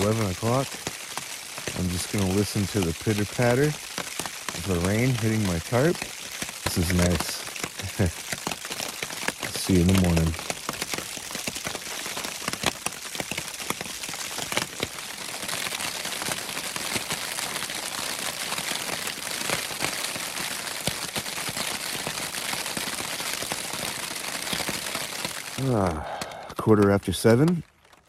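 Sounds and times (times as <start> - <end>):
rain pattering on a tarp: 0.0 - 28.0
raindrops ticking on fabric: 0.0 - 28.0.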